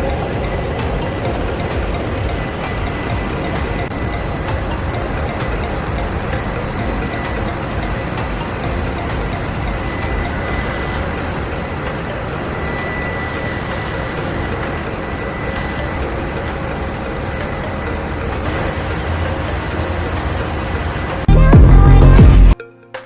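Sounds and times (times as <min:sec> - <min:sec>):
engine-room machinery running: 0:00.0 - 0:22.6
loud music: 0:00.0 - 0:23.0.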